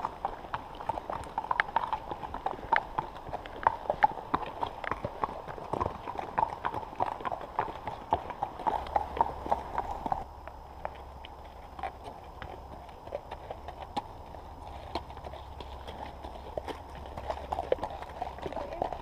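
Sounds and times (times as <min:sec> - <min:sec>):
hooves clip-clopping on gravel: 0:00.0 - 0:19.0.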